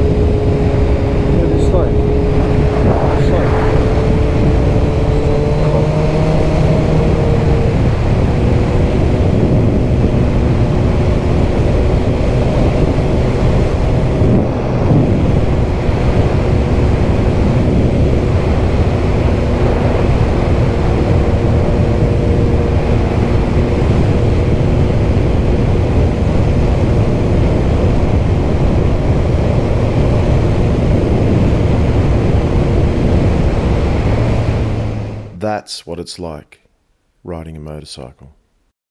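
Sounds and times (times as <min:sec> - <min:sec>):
motorcycle engine running: 0:00.0 - 0:35.2
wind and road noise: 0:00.0 - 0:35.6.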